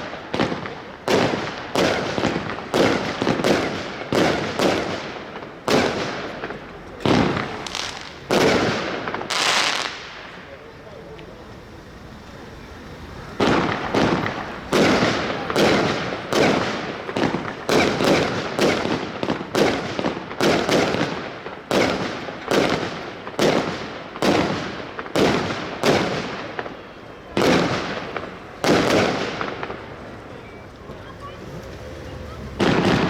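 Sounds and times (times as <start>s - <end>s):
firework bangs: 0.0s - 33.0s.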